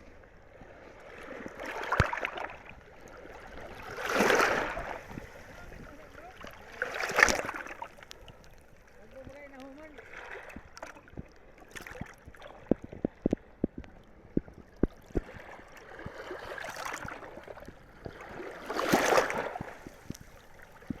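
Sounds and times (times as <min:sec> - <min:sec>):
water washing at shoreline: 0:01.0 - 0:21.0.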